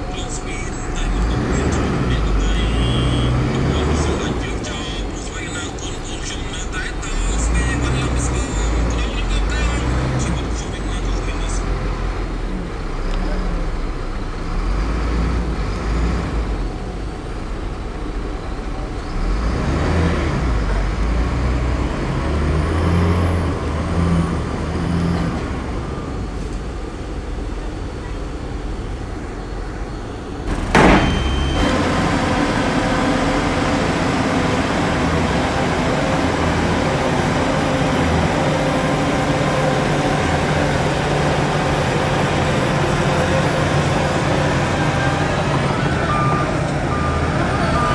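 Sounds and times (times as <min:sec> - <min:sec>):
diesel machinery engines rumbling: 0:00.0 - 0:47.9.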